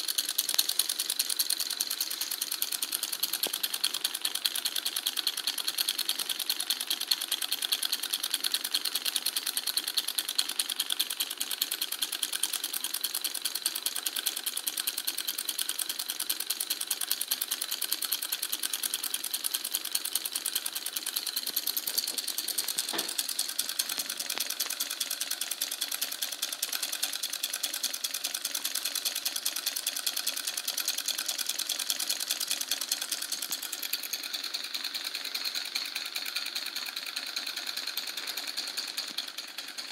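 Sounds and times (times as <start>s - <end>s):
solenoid engine clattering: 0.0s - 39.9s.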